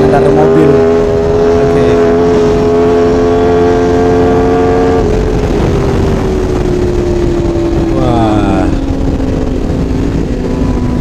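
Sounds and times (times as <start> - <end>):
motorcycle engine at high revs: 0.0 - 11.0.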